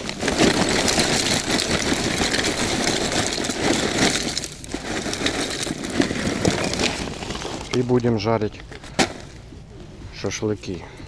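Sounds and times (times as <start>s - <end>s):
charcoal clattering onto stones: 0.0s - 9.4s
paper sack rustling: 0.0s - 9.5s.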